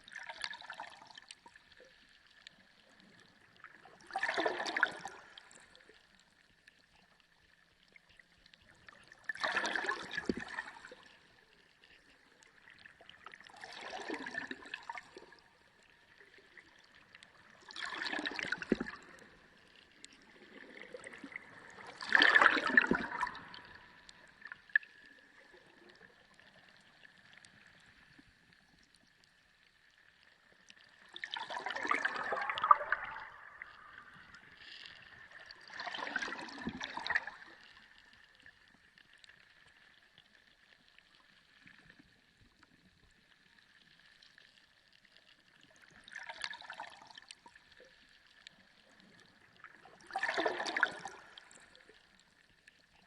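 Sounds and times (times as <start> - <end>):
underwater water surges: 0.0 - 53.0.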